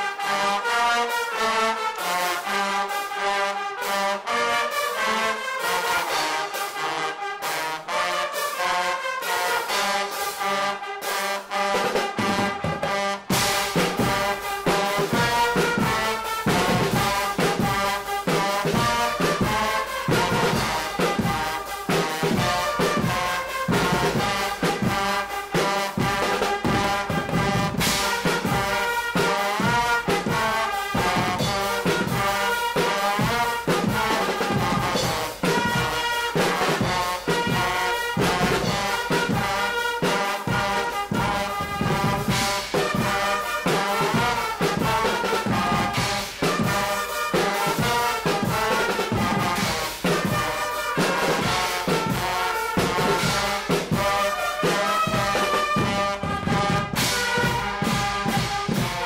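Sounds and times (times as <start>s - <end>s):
drums and cymbals beat: 0.0s - 59.0s
trumpets and trombones blaring: 0.0s - 59.0s.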